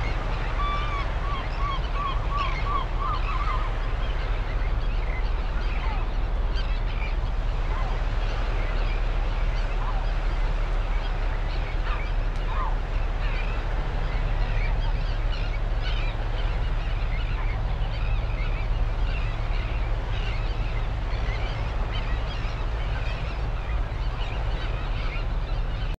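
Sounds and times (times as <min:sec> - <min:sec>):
birds chirping: 0:00.0 - 0:25.9
steady low rumble: 0:00.0 - 0:25.9.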